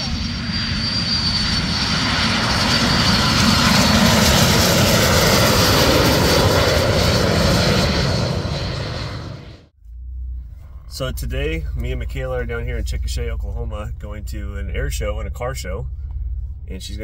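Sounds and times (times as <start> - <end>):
airplane passing overhead: 0.0 - 17.0.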